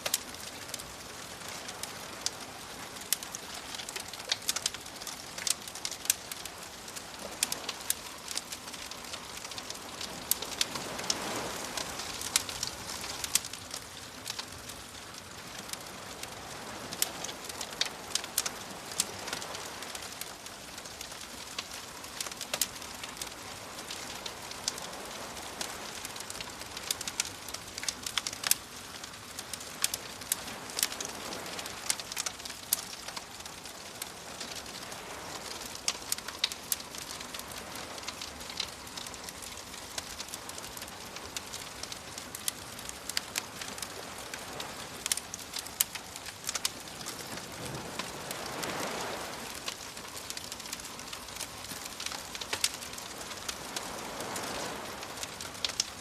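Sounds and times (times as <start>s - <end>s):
wood fire crackling: 0.0s - 56.0s
sea waves washing: 1.8s - 27.6s, 29.5s - 56.0s.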